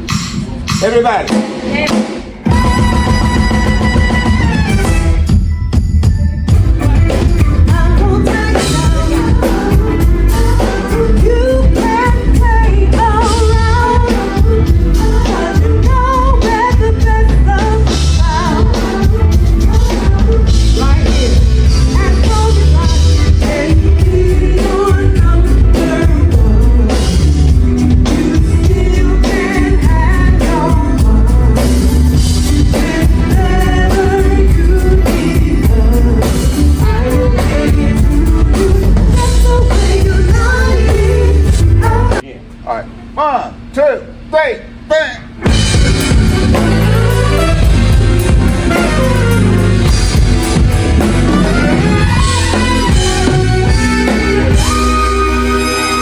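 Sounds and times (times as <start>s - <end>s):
live band with lead vocal: 0.0s - 42.2s, 45.3s - 56.0s.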